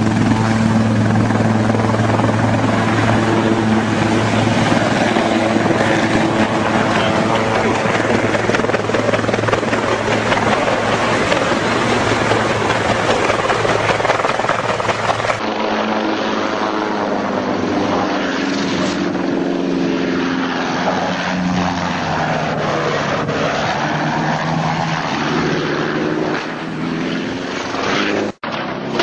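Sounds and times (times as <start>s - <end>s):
helicopter engine drone: 0.0s - 29.0s
low-flying helicopter roar: 0.0s - 29.0s.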